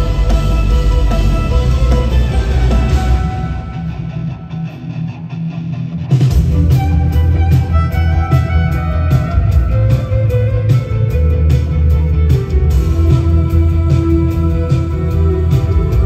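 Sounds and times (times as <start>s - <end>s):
live rock band with violin: 0.0s - 16.0s.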